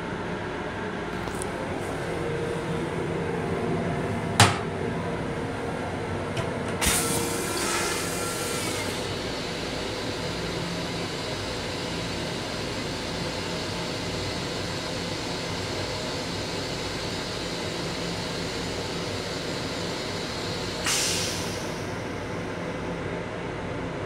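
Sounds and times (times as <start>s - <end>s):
train hum and rumble: 0.0s - 24.0s.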